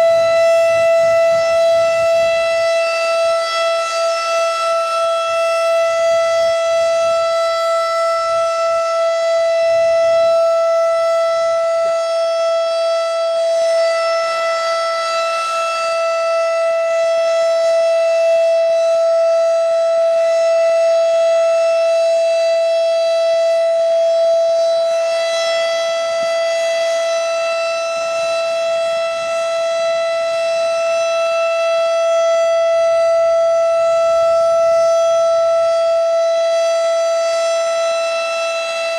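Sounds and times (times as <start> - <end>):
siren high-pitched steady tone: 0.0 - 38.9.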